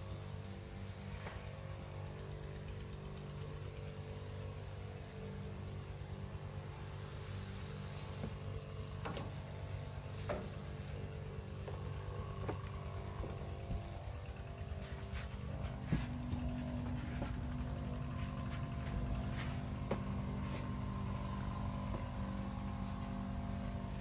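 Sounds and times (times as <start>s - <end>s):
pump motor humming: 0.0s - 24.0s
sprayer spraying: 0.0s - 24.0s.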